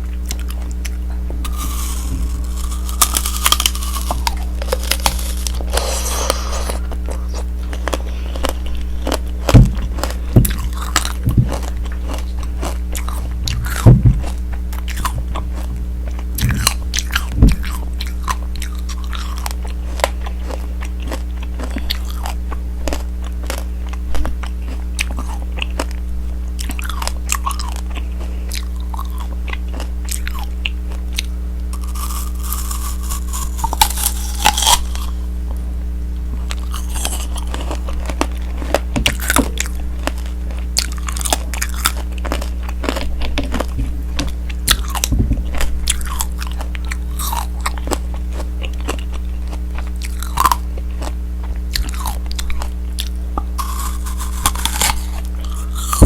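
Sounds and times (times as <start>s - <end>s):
steady low hum: 0.0s - 56.0s
wet chewing: 0.2s - 26.0s, 26.6s - 35.6s, 36.5s - 56.0s
candy shell crunching: 0.3s - 26.0s, 26.6s - 35.3s, 36.5s - 56.0s.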